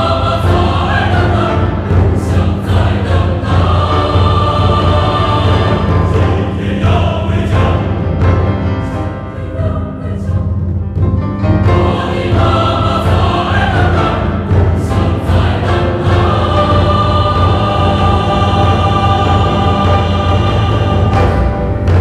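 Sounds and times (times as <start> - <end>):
mixed choir singing in harmony: 0.0 - 22.0.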